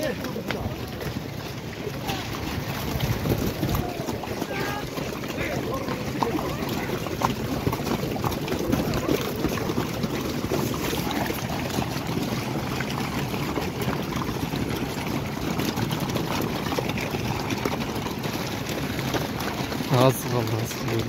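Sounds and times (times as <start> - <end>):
horses galloping on gravel: 0.0 - 21.0.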